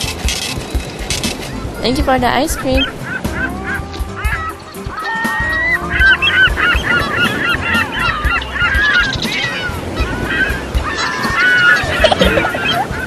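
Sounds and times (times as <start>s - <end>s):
background music: 0.0s - 13.0s
seagulls calling: 0.0s - 13.0s.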